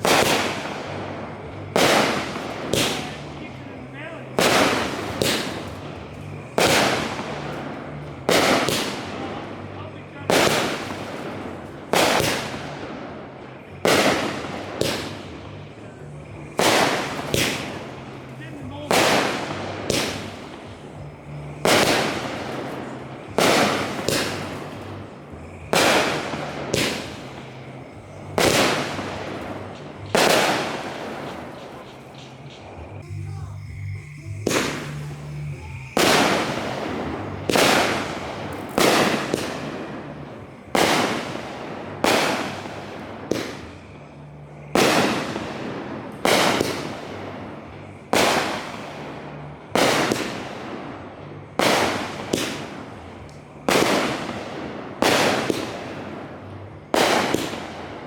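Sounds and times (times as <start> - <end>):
fireworks bangs with echo: 0.0 - 58.0.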